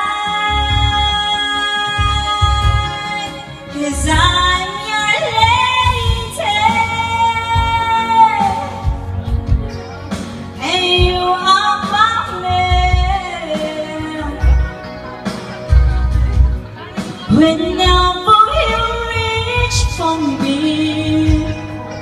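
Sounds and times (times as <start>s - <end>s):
woman singing karaoke: 0.0s - 9.3s, 10.6s - 15.2s, 16.9s - 22.0s
backing track with steady beat: 0.0s - 22.0s.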